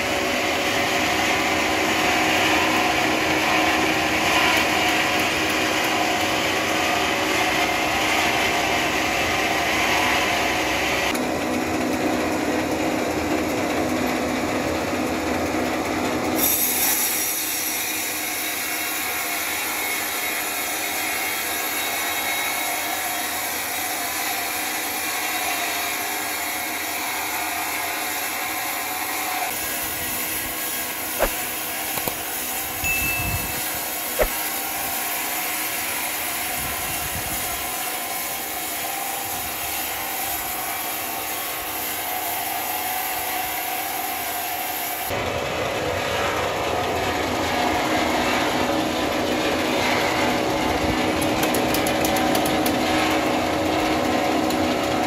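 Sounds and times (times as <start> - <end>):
sawmill saw cutting timber: 0.0 - 45.3, 45.9 - 55.0.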